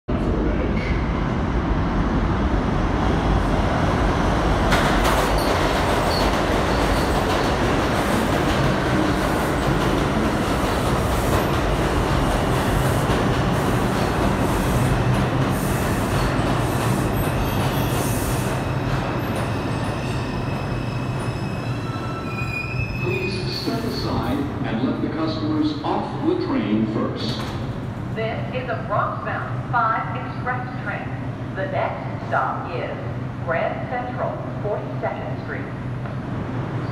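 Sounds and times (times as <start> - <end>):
subway train wheels rumbling: 0.1 - 36.9.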